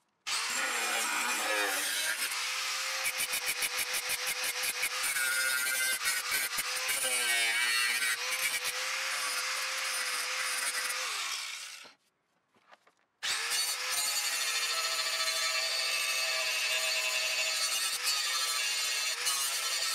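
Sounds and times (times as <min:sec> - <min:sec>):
angle grinder grinding steel: 0:00.3 - 0:11.9, 0:13.2 - 0:19.9.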